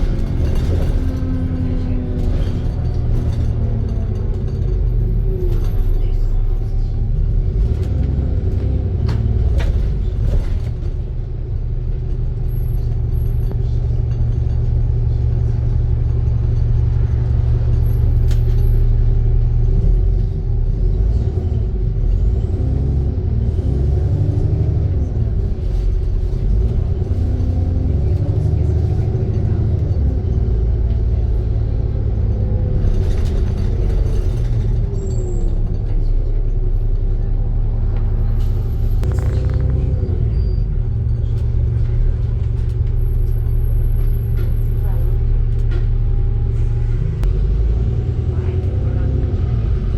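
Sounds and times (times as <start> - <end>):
bus engine running: 0.0 - 49.9.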